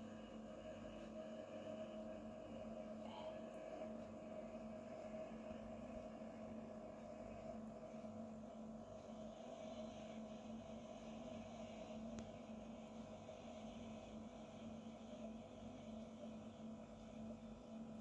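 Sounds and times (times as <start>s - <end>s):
faint two-tone hum: 0.0s - 18.0s.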